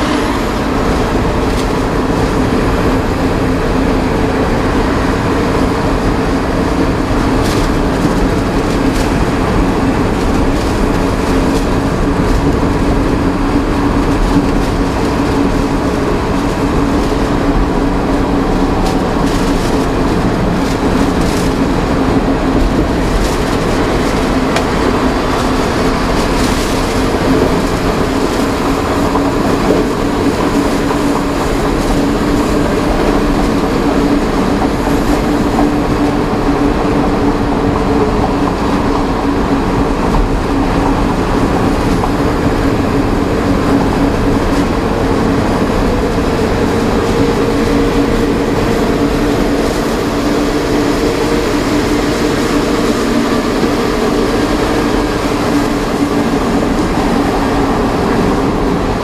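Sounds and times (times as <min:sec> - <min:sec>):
road noise: 0:00.0 - 0:59.0
truck engine drone: 0:00.0 - 0:59.0.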